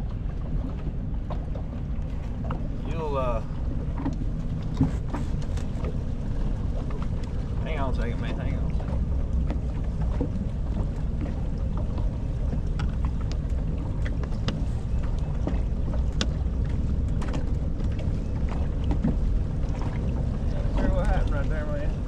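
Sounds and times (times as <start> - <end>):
boat engine low rumble: 0.0 - 22.0.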